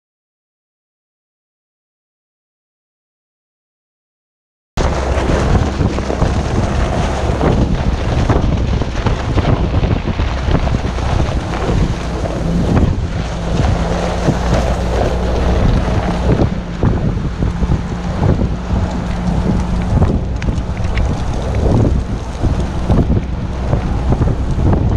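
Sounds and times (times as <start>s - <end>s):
tyres rumbling on dirt: 4.8s - 24.9s
vehicle engine hum: 4.8s - 24.9s
wind buffeting a microphone: 4.8s - 24.9s.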